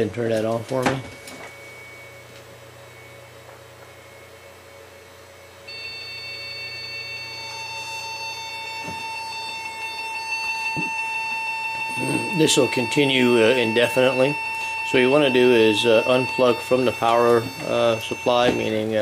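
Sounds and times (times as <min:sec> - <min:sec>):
high-pitched electronic alarm tone: 0:00.8 - 0:19.0
lower electronic tone: 0:00.8 - 0:19.0.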